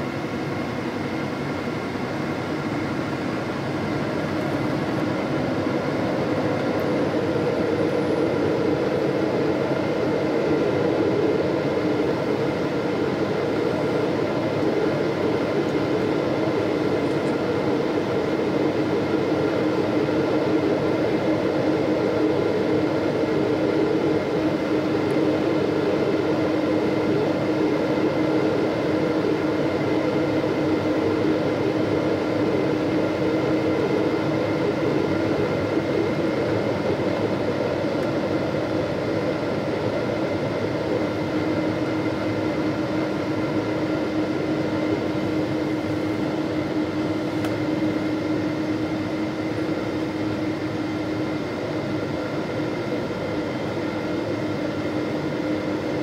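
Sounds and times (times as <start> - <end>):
airliner cabin noise: 0.0 - 56.0.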